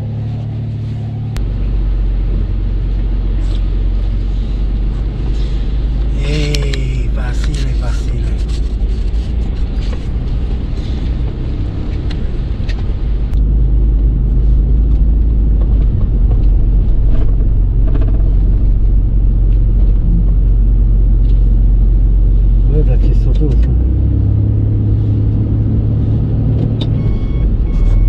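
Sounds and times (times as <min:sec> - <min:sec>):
off-road vehicle engine rumble: 0:00.0 - 0:28.0.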